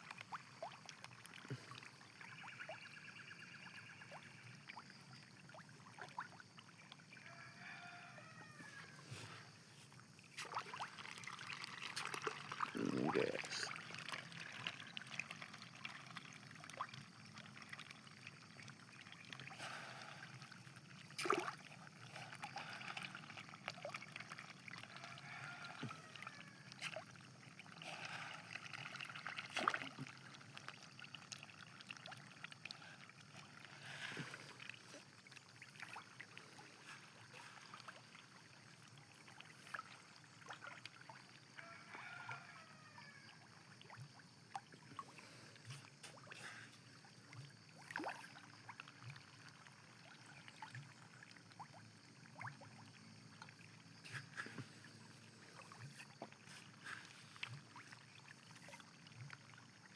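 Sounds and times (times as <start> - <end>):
faint trickling water: 0.0 - 59.9.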